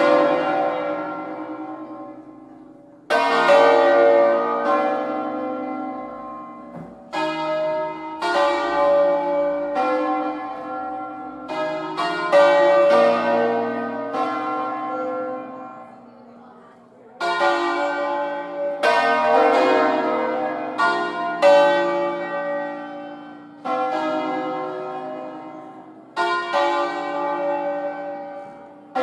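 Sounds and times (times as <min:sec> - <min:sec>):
church bells ringing: 0:00.0 - 0:29.0.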